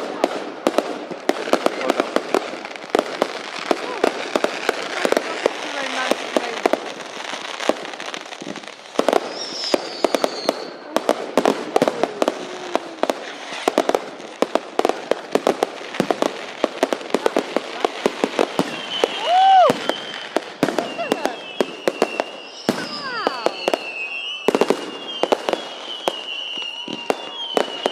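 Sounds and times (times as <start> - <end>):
fireworks bangs and crackles: 0.0 - 27.9
firework whistles: 1.0 - 16.6, 18.0 - 27.9.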